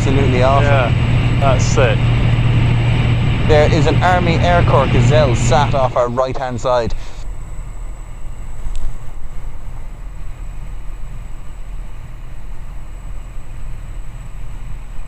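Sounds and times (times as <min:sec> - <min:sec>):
aircraft engine drone: 0:00.0 - 0:15.0
high-pitched whine: 0:00.0 - 0:15.0.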